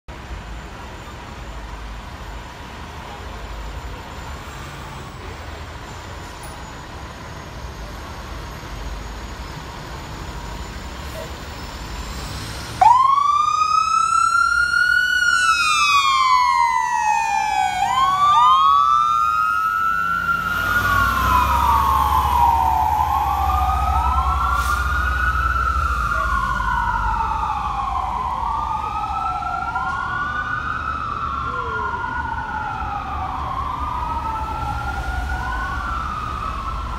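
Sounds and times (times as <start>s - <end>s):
truck engine rumble: 0.1s - 36.9s
fire engine siren wailing: 6.8s - 36.9s.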